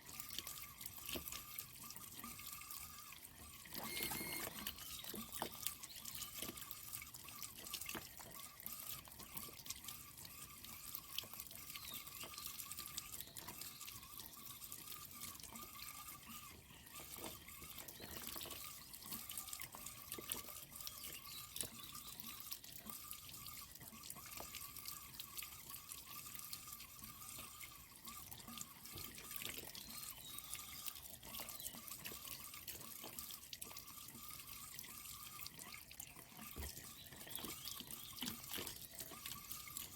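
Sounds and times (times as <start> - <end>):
water drips and splashes: 0.0 - 39.9
water running and trickling: 0.0 - 39.9.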